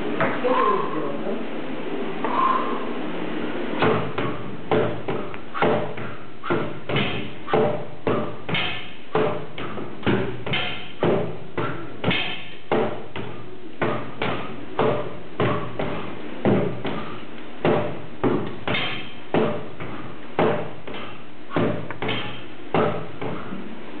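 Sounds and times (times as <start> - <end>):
steady low hum: 0.0 - 24.0
sword and shield thudding on tyres: 3.8 - 23.6.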